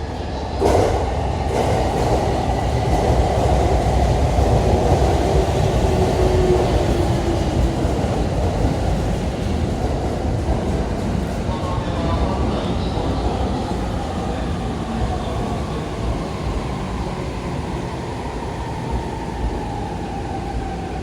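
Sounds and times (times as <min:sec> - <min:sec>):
train wheel and rail noise: 0:00.0 - 0:21.0.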